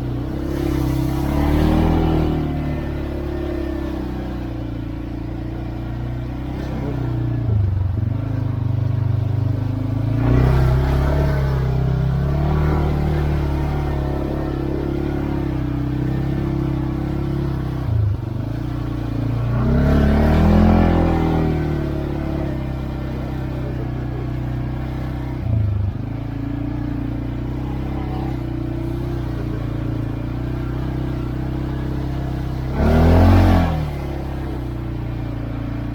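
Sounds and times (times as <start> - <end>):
atv engine running: 0.0 - 35.9.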